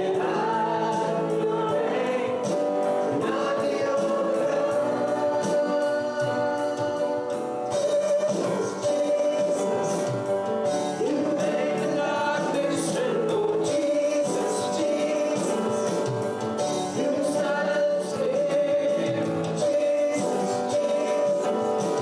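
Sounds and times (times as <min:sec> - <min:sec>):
voices singing worship music: 0:00.0 - 0:22.0.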